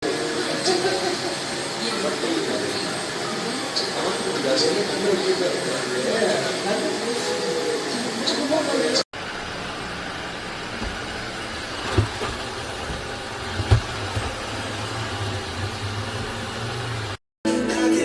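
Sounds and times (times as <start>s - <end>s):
floor cleaner humming: 0.0s - 17.2s.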